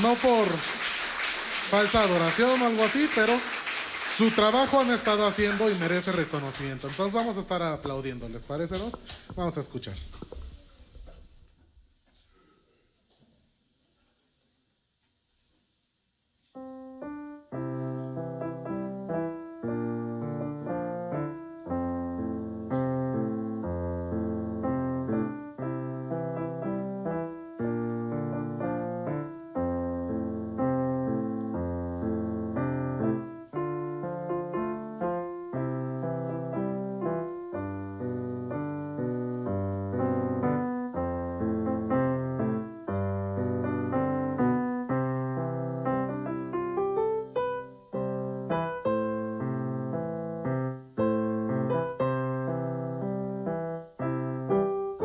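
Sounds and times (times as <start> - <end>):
piano piece: 0.0 - 8.9, 16.6 - 55.0.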